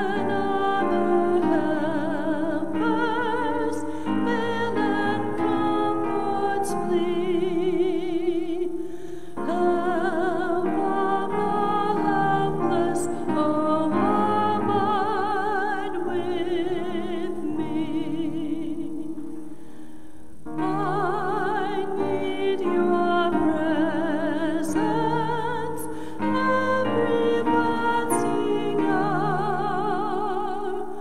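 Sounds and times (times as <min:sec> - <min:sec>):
person singing a slow hymn: 0:00.0 - 0:31.0.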